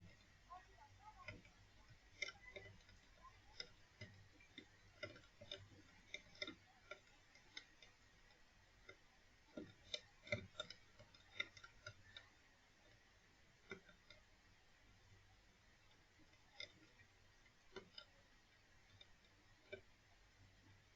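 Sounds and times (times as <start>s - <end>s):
faint irregular clicking: 0.0s - 20.9s
light tapping: 0.0s - 20.9s.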